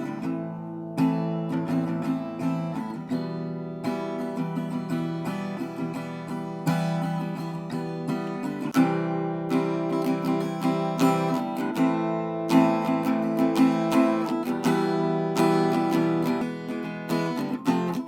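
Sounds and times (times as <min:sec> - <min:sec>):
acoustic guitar strumming chords: 0:00.0 - 0:18.0
guitar picked notes: 0:00.0 - 0:18.0.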